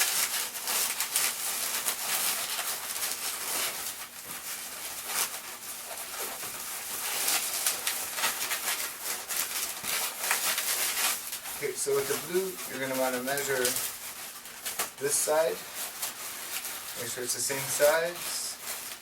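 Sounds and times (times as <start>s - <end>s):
balloons rubbing and squeaking: 0.0s - 19.0s.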